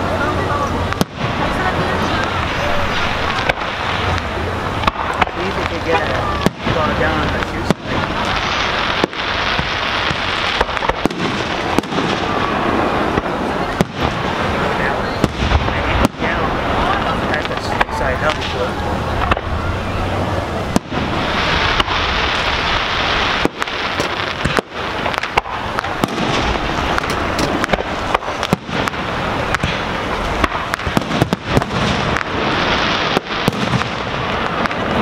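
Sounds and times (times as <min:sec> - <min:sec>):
steady hiss: 0:00.0 - 0:35.0
firework shells bursting: 0:00.9 - 0:16.4, 0:20.7 - 0:35.0.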